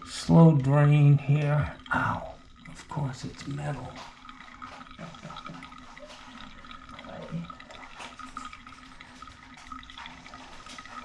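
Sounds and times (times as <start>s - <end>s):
tap water running into basin: 0.0s - 11.0s.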